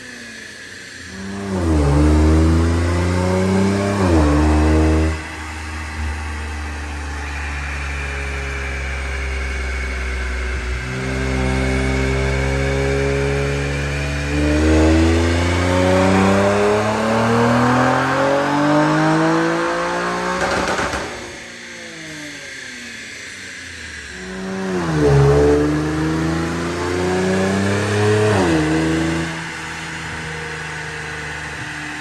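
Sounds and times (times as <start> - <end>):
car engine revving at full throttle: 0.0 - 32.0.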